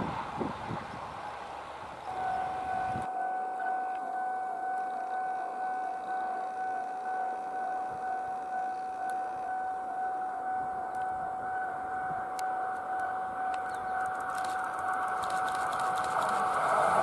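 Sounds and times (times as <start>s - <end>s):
high electronic warning tone: 2.0s - 17.0s.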